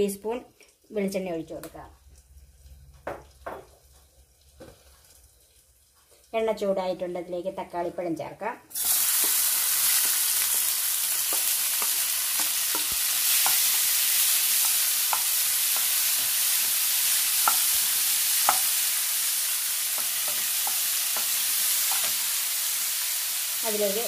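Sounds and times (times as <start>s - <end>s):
tomatoes sizzling in oil: 0.0s - 8.1s, 8.7s - 24.0s.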